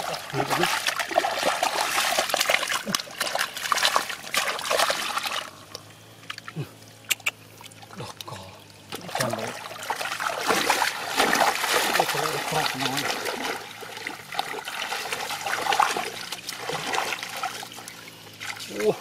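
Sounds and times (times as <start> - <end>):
hands splashing in muddy water: 0.0 - 5.5, 9.0 - 18.8.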